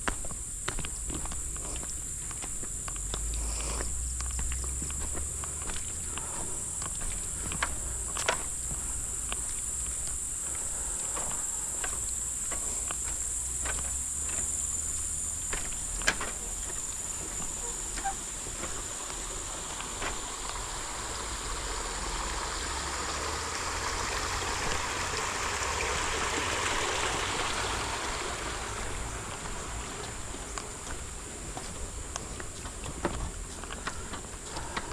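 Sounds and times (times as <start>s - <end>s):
footsteps on trail: 0.0s - 21.3s, 26.9s - 34.9s
insects droning: 0.0s - 34.9s.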